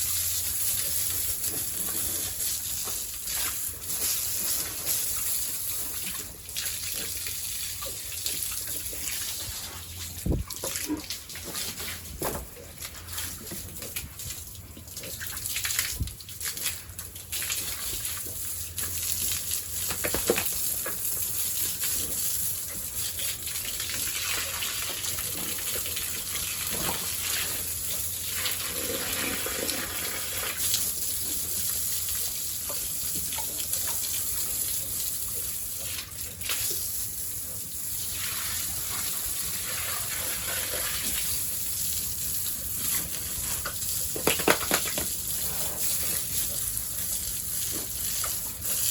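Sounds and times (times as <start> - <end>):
water gushing from a hose: 0.0 - 48.9.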